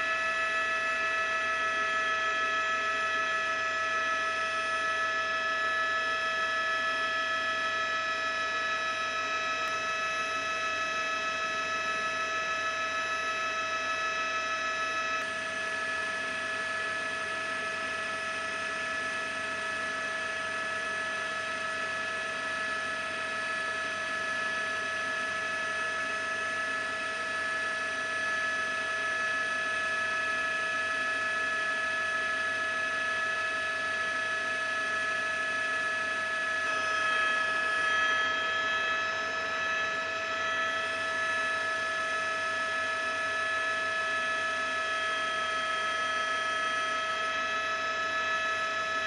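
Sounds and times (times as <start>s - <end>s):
helicopter turbine whine: 0.0s - 20.2s, 26.8s - 48.8s.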